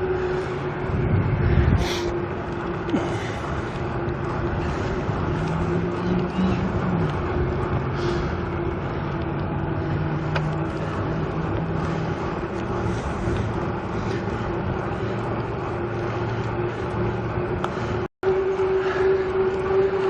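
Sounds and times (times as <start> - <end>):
bicycle tyres on path: 0.0 - 20.0
low hum: 0.0 - 20.0
wind over microphone: 0.0 - 20.0.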